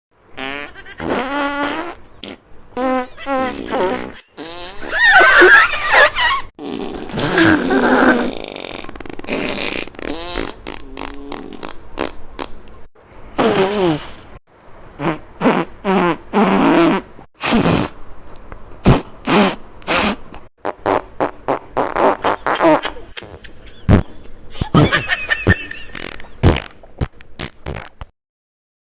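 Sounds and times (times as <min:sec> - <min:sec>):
fart sound effects: 0:00.4 - 0:12.6, 0:13.4 - 0:14.2, 0:15.0 - 0:18.0, 0:18.8 - 0:24.0, 0:25.9 - 0:28.1.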